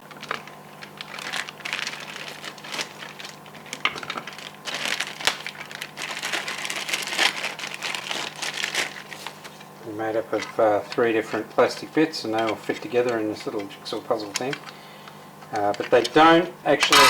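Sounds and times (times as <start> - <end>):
plastic parts rustling: 0.0 - 13.6, 15.5 - 17.0.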